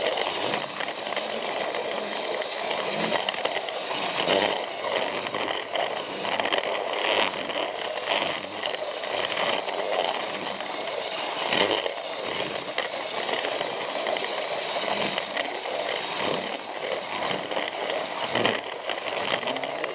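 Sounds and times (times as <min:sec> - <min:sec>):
toy train clicking on track: 0:00.0 - 0:19.9
toy train motor whirr: 0:00.0 - 0:19.9.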